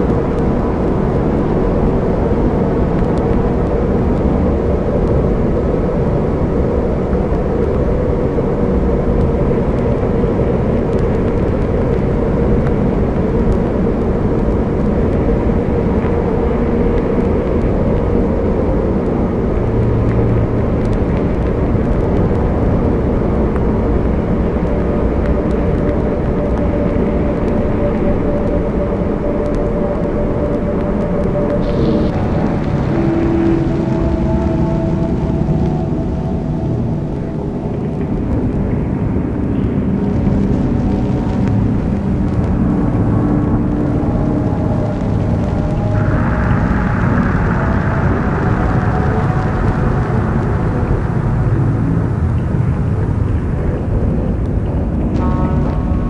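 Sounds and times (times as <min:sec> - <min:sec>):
dark ambient drone music: 0:00.0 - 0:56.0.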